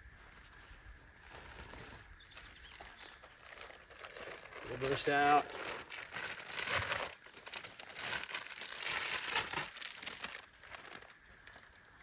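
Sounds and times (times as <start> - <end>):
gear rustling and crinkling: 1.2 - 12.0.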